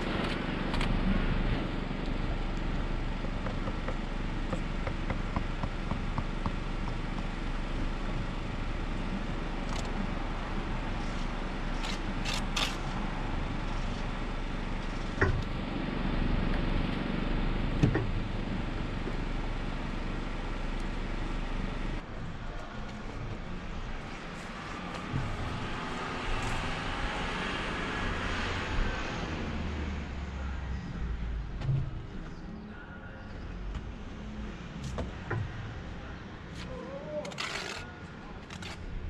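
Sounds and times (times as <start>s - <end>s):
truck engine and vacuum pump drone: 0.0s - 39.0s.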